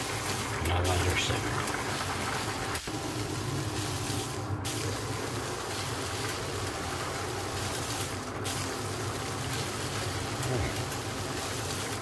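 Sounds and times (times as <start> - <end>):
chili simmering bubbling hiss: 0.0 - 12.0.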